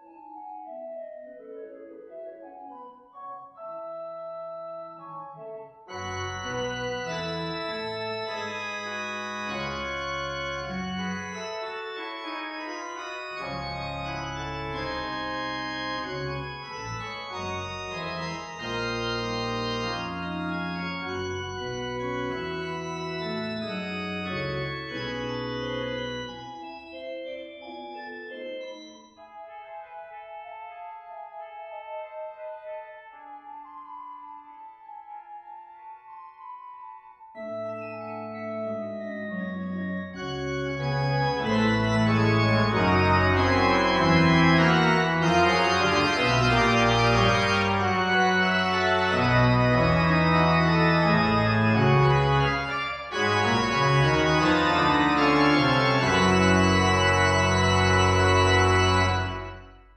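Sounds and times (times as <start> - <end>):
pipe organ chords: 0.0 - 35.9, 37.4 - 59.9.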